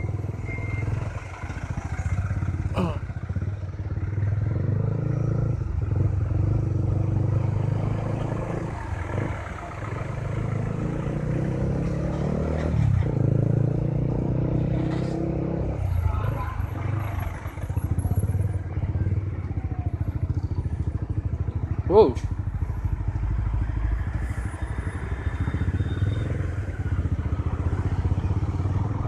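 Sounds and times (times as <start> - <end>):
motorcycle engine at low speed: 0.0 - 29.0.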